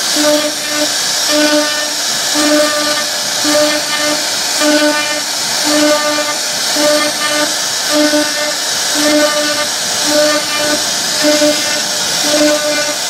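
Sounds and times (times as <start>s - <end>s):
pulsing humming tone: 0.0s - 13.0s.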